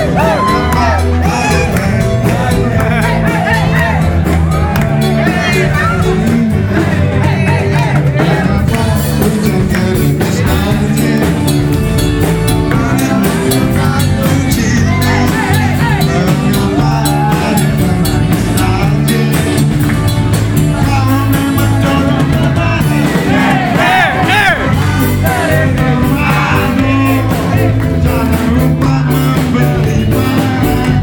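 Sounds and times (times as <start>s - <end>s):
man singing into microphone: 0.0s - 4.2s, 5.0s - 31.0s
live band playing: 0.0s - 31.0s.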